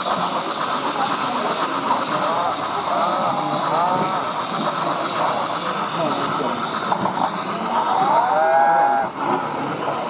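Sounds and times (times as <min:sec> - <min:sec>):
crowd hubbub of voices: 0:00.0 - 0:10.0
model train running on track: 0:00.0 - 0:10.0.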